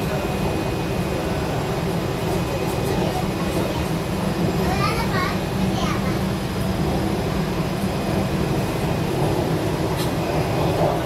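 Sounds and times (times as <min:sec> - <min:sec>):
train engine and running gear drone: 0:00.0 - 0:11.0.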